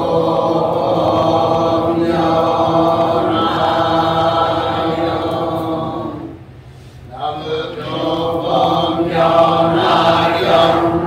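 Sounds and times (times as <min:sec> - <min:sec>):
voices chanting in unison: 0:00.0 - 0:06.5, 0:07.1 - 0:11.0.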